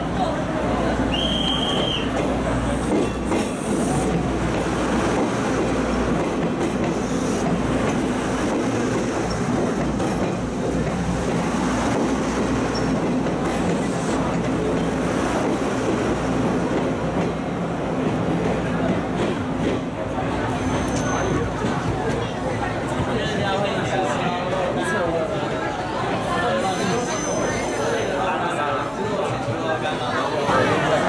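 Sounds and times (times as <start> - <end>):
train wheels on rails: 0.1 - 31.0.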